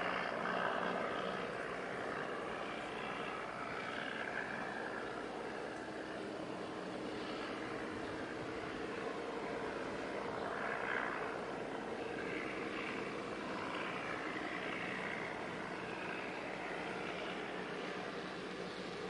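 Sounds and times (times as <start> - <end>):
boat engine hum: 0.0 - 19.0
high engine whine: 0.0 - 19.0.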